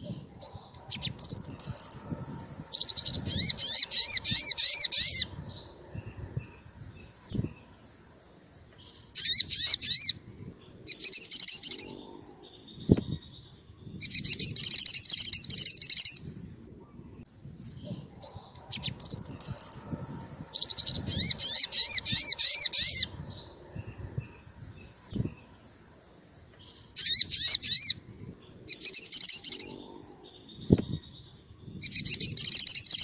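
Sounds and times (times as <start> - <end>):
bird singing high trills: 0.0 - 33.0.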